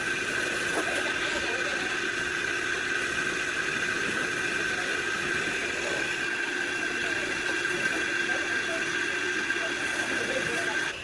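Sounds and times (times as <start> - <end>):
machine whir with high tone: 0.0 - 11.0.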